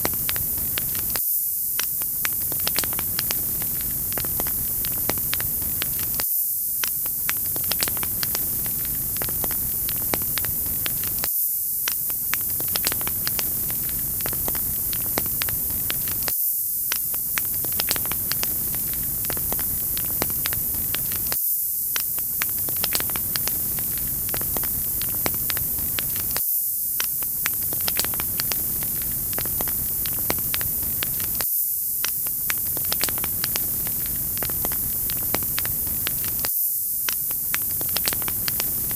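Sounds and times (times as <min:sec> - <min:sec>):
sharp pops: 0:00.0 - 0:01.2, 0:01.8 - 0:06.2, 0:06.8 - 0:26.4, 0:27.0 - 0:38.9
wood fire crackling: 0:00.0 - 0:01.2, 0:01.9 - 0:06.2, 0:07.0 - 0:11.3, 0:12.0 - 0:16.3, 0:17.0 - 0:26.4, 0:27.0 - 0:31.4, 0:32.0 - 0:38.9.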